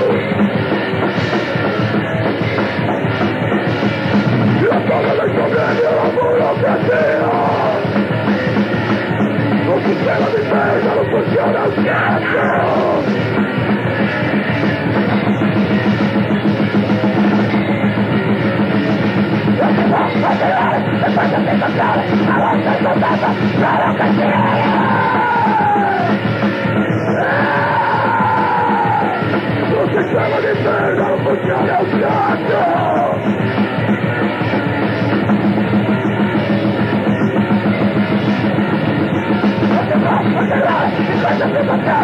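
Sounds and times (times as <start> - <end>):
grindcore band playing: 0.0 - 42.0.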